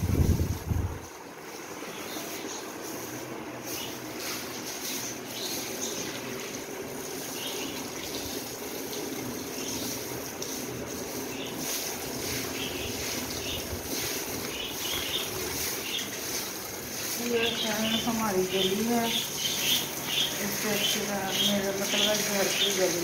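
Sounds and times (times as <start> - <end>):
hose water splashing on tiles: 0.0 - 23.0.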